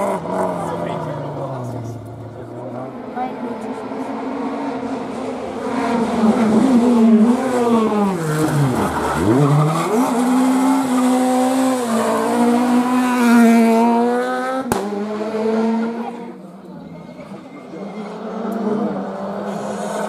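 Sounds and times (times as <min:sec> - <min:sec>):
rally car engine revving: 0:00.0 - 0:16.6, 0:17.3 - 0:20.0.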